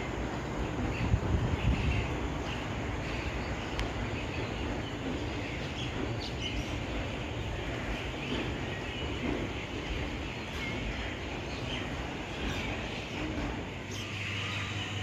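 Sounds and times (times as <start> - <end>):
railway station rumble: 0.0 - 15.0.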